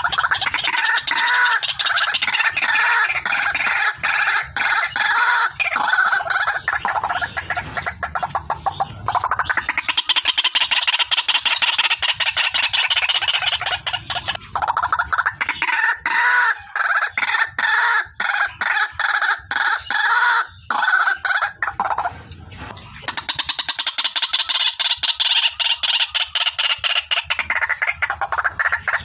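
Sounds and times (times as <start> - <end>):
waterhen calling: 0.0 - 29.0.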